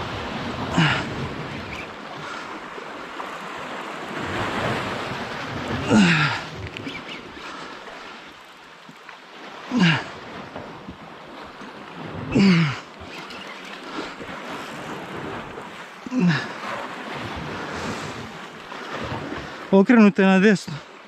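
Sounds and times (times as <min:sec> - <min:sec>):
sea surf: 0:00.0 - 0:21.0.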